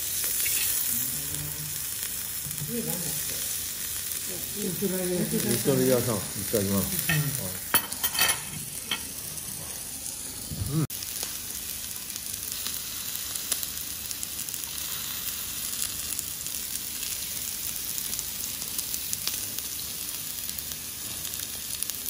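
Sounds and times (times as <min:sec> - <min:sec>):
meat sizzling on grill pan: 0:00.0 - 0:22.0.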